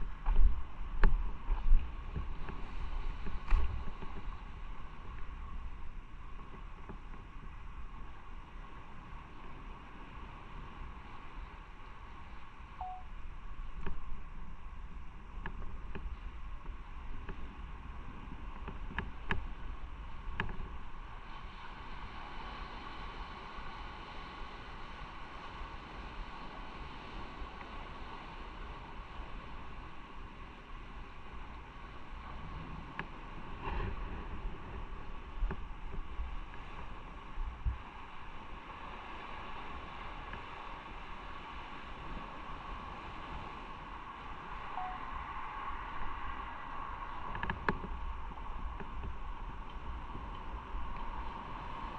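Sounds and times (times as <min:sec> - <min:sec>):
wind noise on microphone: 0:00.0 - 0:51.9.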